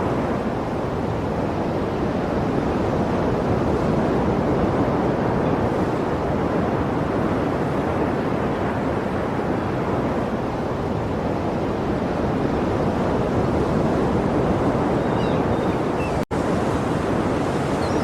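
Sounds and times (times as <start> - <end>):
sea waves rushing: 0.0 - 18.0.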